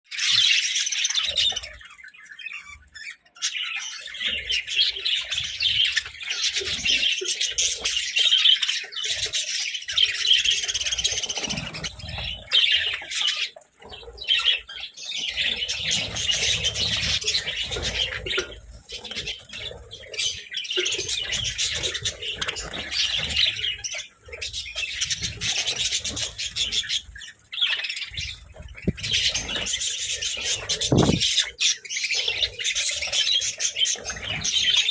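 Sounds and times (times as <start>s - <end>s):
budgerigars chirping and chattering: 0.1s - 34.9s.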